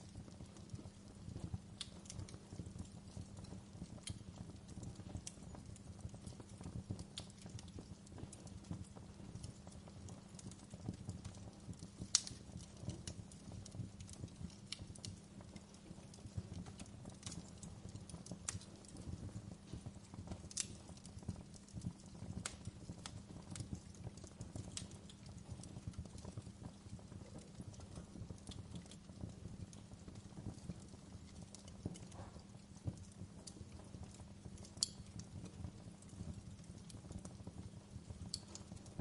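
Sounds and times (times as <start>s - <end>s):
fire crackles and pops: 0.0s - 39.0s
low rumble of flames: 0.0s - 39.0s.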